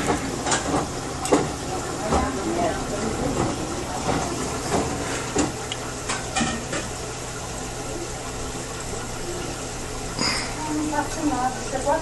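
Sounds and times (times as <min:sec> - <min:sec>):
water sloshing in washing machine: 0:00.0 - 0:12.0.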